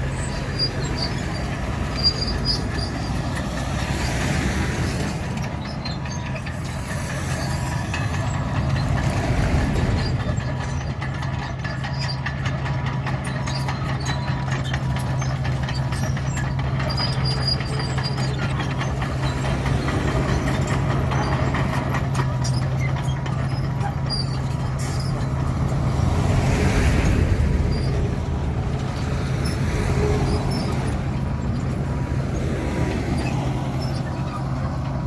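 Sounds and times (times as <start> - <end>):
bulldozer diesel engine running: 0.0 - 35.0
steel tracks clattering: 0.0 - 35.0.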